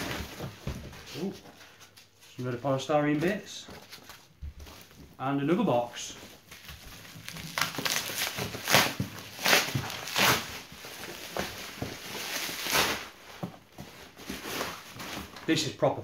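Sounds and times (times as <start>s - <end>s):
bubble wrap rustling and crinkling: 0.0s - 15.9s.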